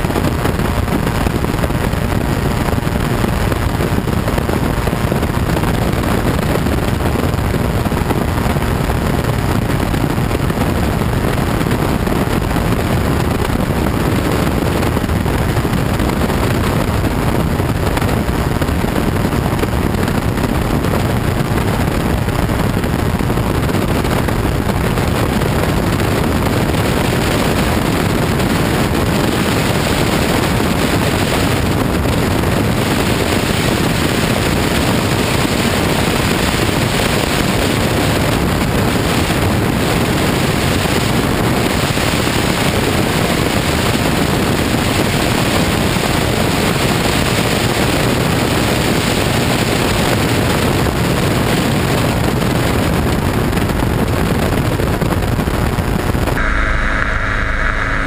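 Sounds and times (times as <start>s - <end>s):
aircraft engine and propeller: 0.0s - 47.7s
wind rush on microphone: 0.0s - 58.0s.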